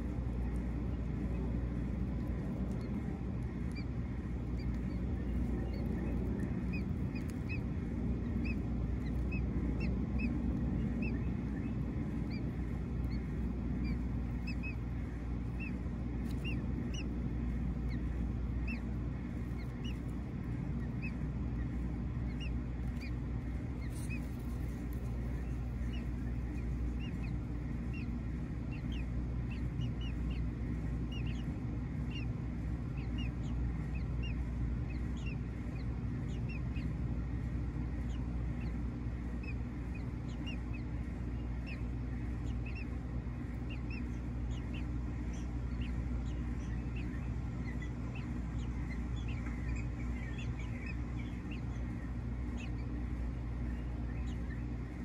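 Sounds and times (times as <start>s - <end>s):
steady low rumble: 0.0s - 55.0s
high bird chirps: 4.5s - 20.1s, 20.7s - 32.3s, 38.0s - 55.0s.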